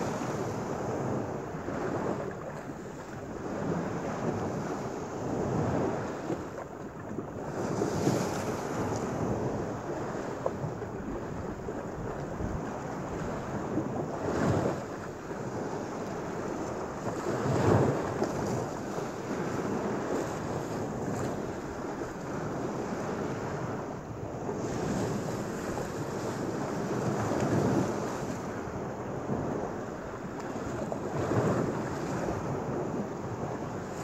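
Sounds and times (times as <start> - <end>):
surf washing onto sand beach: 0.0 - 34.0.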